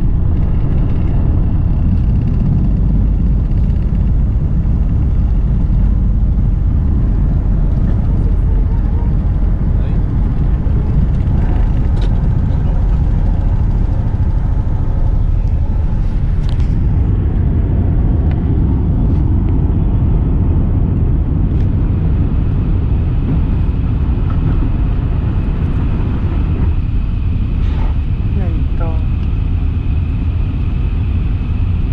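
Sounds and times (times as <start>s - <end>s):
jet engines rumbling: 0.0s - 31.9s.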